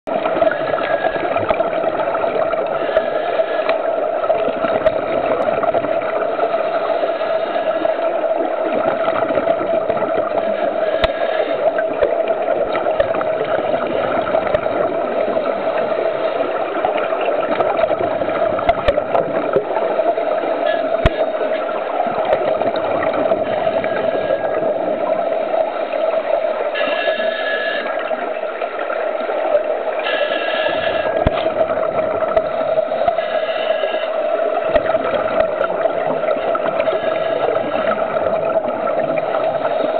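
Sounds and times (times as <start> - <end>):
underwater hum with hiss: 0.1 - 39.9.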